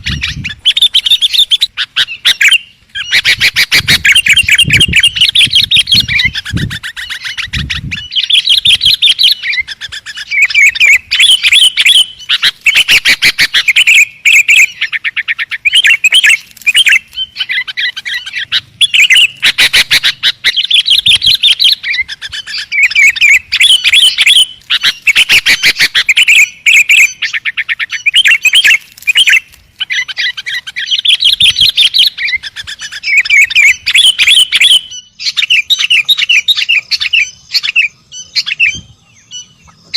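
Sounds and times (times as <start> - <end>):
bulbul chirping: 0.0 - 39.9.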